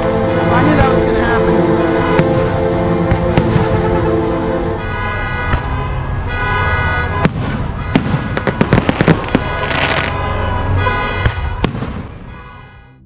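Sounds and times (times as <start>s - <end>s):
music: 0.0s - 13.0s
fireworks bangs and crackling: 0.5s - 1.4s, 2.0s - 3.9s, 4.8s - 12.8s.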